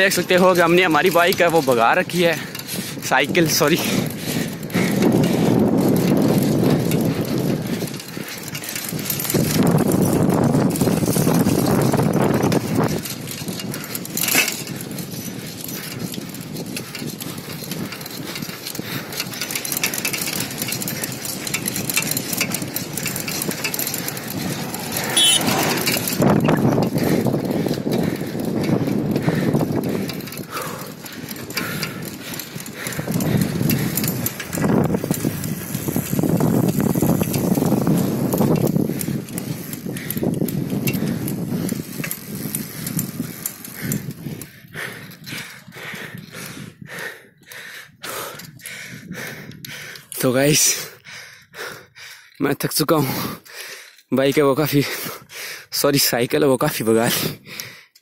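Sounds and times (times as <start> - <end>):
tyres rolling on asphalt: 0.0 - 51.0
wind buffeting microphone: 0.0 - 52.1
bike frame rattling: 0.0 - 58.0.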